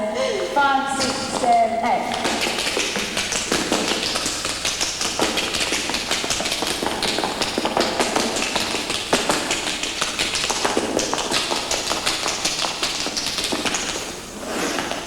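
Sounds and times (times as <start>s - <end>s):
rapid tapping and clicking: 0.9s - 15.0s.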